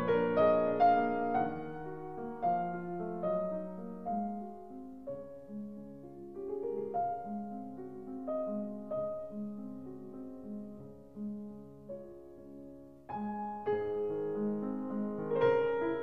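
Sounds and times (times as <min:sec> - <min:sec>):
gentle slow piano piece: 0:00.0 - 0:16.0.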